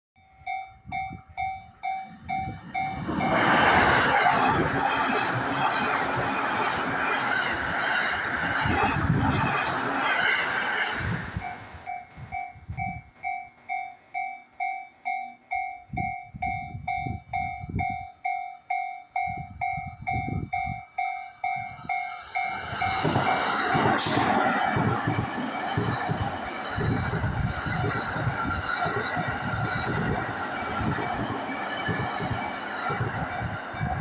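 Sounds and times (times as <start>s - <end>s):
crossing warning bell dinging: 0.2s - 34.0s
passing train noise: 0.4s - 34.0s.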